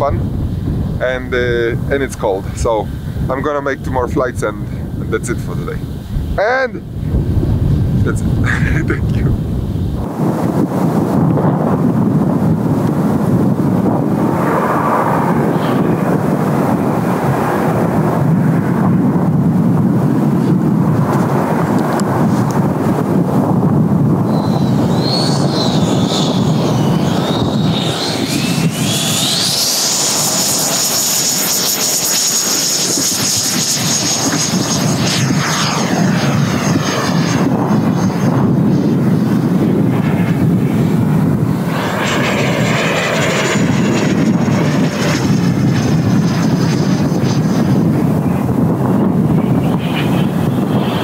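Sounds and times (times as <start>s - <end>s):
electric ducted fan whining: 0.0s - 51.0s
wind rumbling on microphone: 0.0s - 51.0s.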